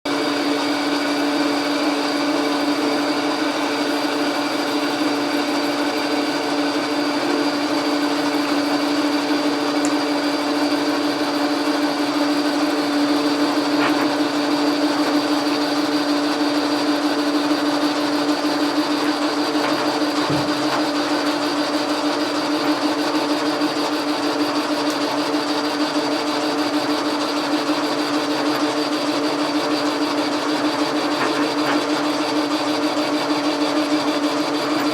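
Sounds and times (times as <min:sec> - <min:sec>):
metal lathe humming: 0:00.1 - 0:34.9.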